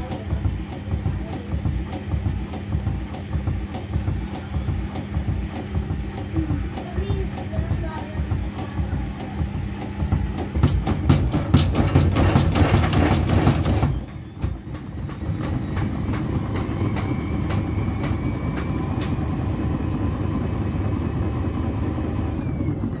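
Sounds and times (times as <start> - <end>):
drum knocking: 0.0 - 19.8
washing machine motor whine: 0.0 - 23.0
water sloshing in washing machine: 0.0 - 23.0.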